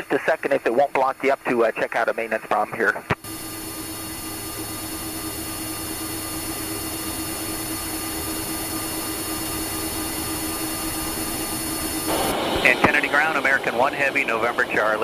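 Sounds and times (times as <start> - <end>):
jet engines idling drone: 0.0 - 15.0.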